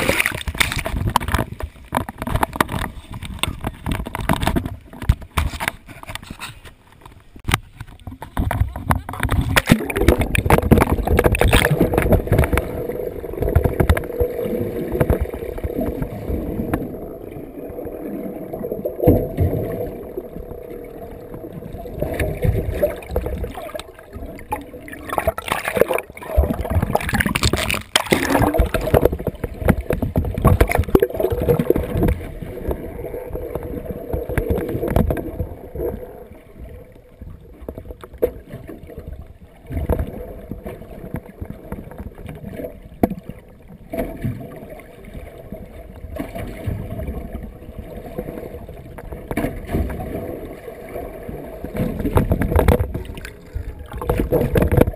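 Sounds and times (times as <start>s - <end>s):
muffled underwater sloshing: 0.0s - 54.9s.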